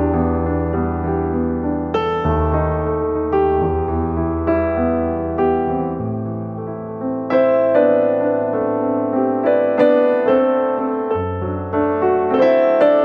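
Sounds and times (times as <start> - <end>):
slow calm piano music: 0.0 - 13.0.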